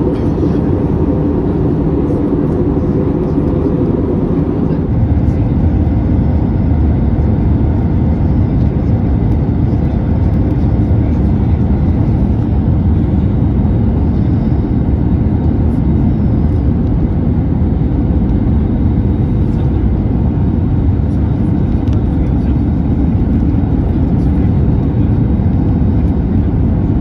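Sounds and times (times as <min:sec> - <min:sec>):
airliner cabin noise: 0:00.0 - 0:27.0.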